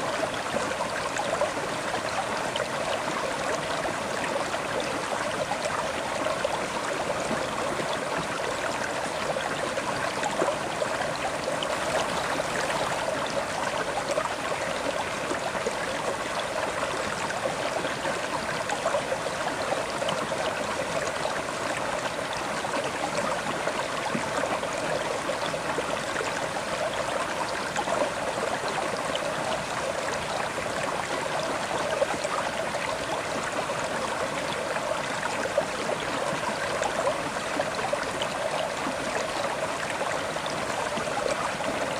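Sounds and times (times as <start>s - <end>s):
river water flowing over stones: 0.0s - 41.9s.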